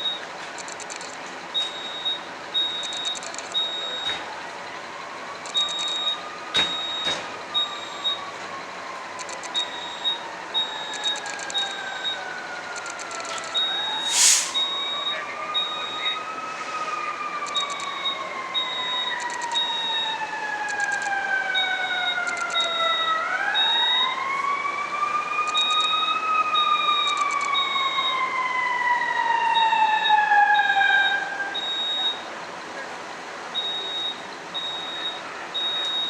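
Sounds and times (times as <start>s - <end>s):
fire alarm beeping: 0.0s - 0.3s, 1.5s - 8.4s, 9.0s - 16.4s, 17.4s - 24.2s, 25.4s - 28.3s, 29.5s - 32.3s, 33.6s - 36.0s
fire engine siren wailing: 1.5s - 36.0s.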